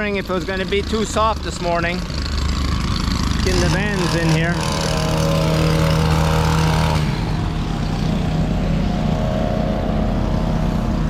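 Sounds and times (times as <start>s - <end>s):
van engine running: 0.0s - 11.0s.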